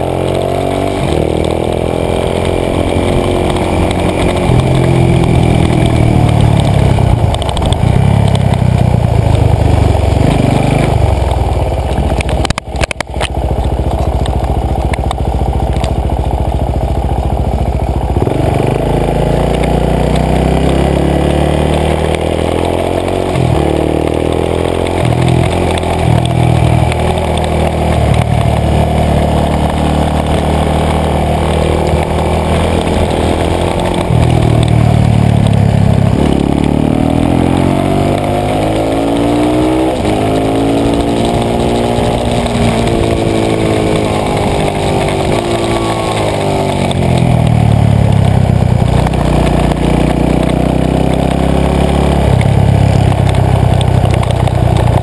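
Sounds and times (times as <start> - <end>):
dirt bike engine revving: 0.0 - 12.9, 15.6 - 53.8.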